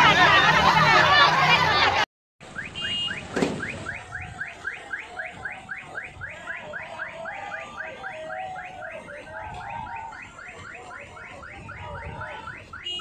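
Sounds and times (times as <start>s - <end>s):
electronic siren yelping: 2.6s - 13.0s.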